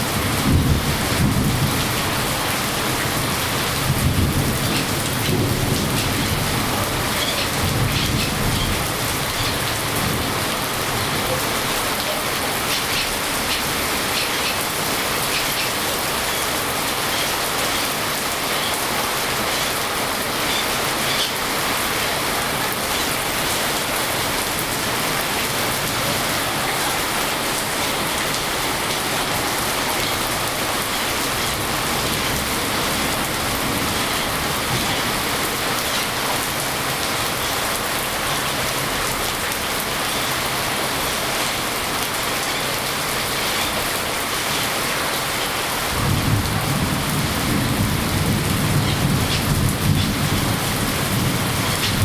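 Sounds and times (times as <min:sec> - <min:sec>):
thunder rumbling: 0:00.0 - 0:37.0, 0:45.9 - 0:52.0
heavy rain: 0:00.0 - 0:52.0.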